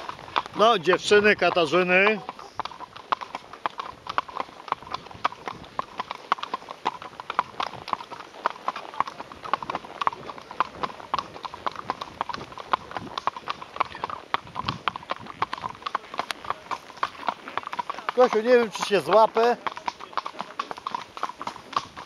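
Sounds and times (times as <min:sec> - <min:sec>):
hooves clip-clopping on asphalt: 0:00.0 - 0:22.0.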